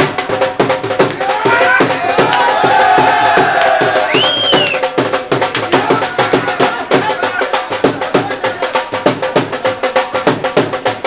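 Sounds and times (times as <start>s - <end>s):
fast folk drumming: 0.0s - 11.0s.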